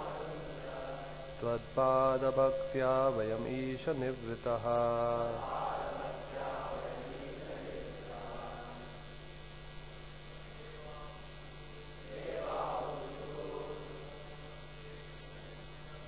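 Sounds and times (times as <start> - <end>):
electrical mains hum: 0.0 - 16.0
faint chanting voices: 0.0 - 16.0.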